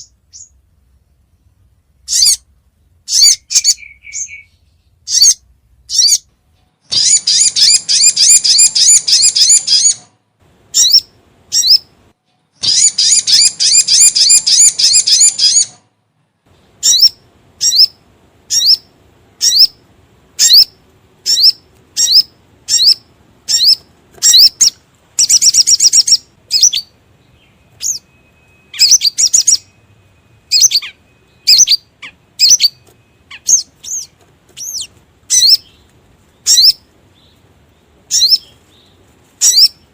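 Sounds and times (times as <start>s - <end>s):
bird trills and chirps: 0.0s - 0.6s, 1.4s - 15.8s, 16.5s - 39.9s.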